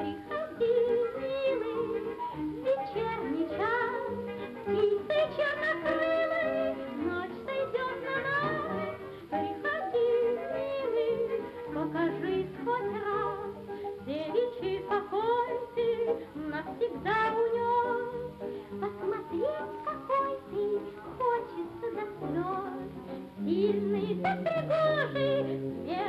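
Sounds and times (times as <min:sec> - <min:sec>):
steady music backing: 0:00.0 - 0:26.0.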